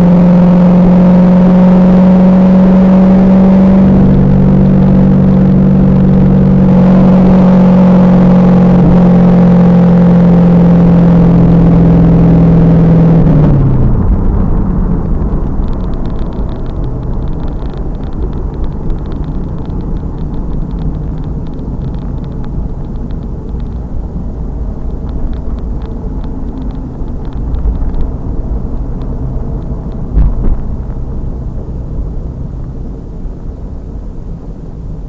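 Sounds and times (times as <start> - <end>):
car engine drone: 0.0 - 35.0
road and wind rumble: 0.0 - 35.0.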